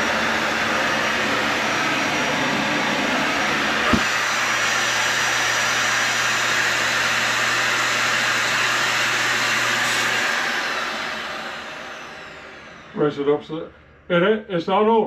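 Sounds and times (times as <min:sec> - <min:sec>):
vacuum cleaner motor running: 0:00.0 - 0:13.1.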